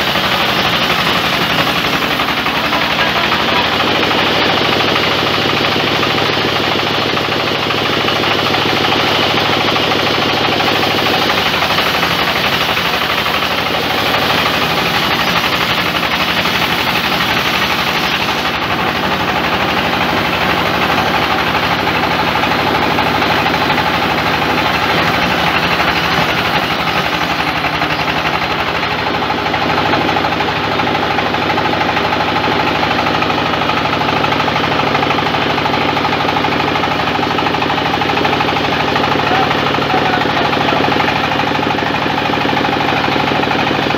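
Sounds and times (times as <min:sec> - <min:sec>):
band sawmill cutting log: 0:00.0 - 0:43.9.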